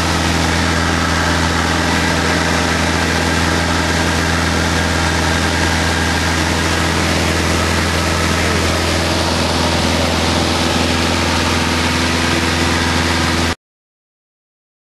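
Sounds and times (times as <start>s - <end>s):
aircraft engine and propeller droning: 0.0s - 13.6s.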